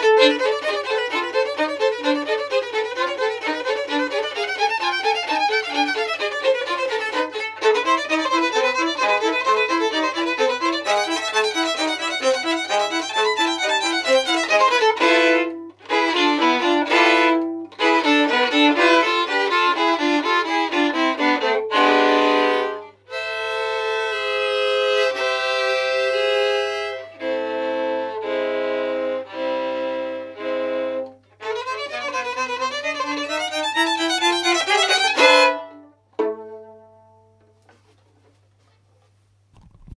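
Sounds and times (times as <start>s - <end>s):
two violins playing a duet: 0.0s - 36.3s.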